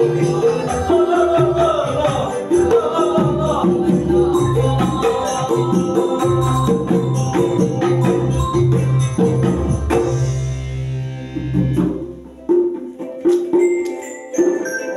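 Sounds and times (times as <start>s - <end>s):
live band playing rhythmic piece: 0.0s - 14.9s.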